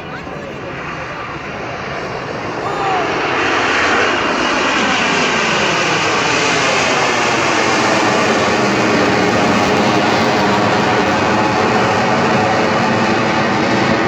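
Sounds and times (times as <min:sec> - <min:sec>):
jet aircraft flypast: 0:00.0 - 0:14.0.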